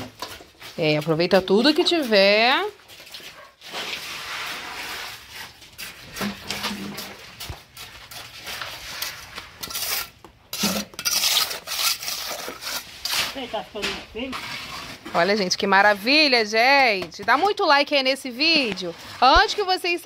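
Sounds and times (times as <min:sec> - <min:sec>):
trowel scraping wet concrete: 0:00.0 - 0:20.0.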